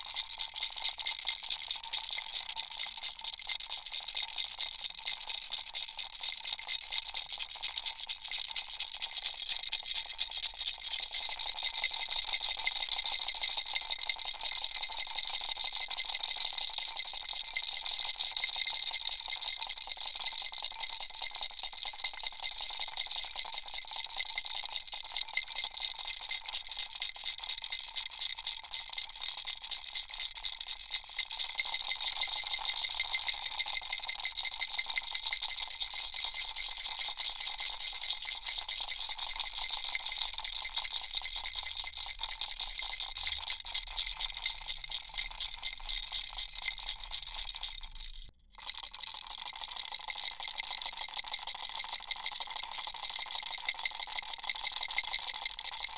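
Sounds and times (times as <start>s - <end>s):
baby rattle shaken: 0.0s - 55.9s.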